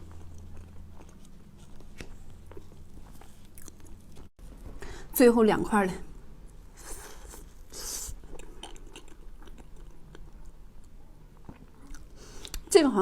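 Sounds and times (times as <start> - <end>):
soft chewing with mouth clicks: 0.0 - 4.3, 6.4 - 12.7.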